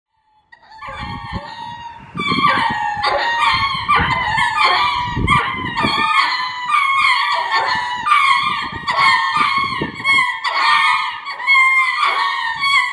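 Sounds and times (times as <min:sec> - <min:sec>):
lemurs giving repeated pitched calls: 0:00.3 - 0:12.9.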